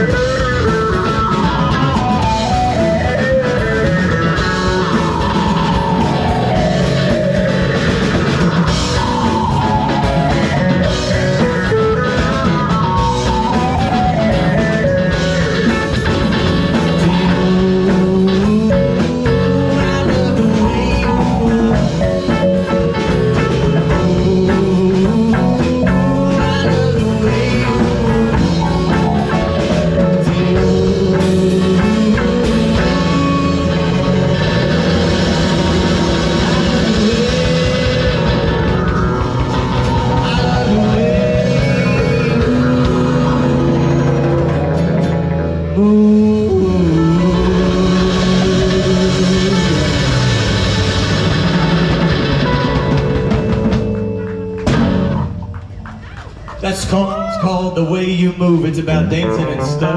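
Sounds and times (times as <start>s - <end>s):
folk rock band playing: 0.0s - 59.9s
sliding guitar lead line: 0.0s - 59.9s.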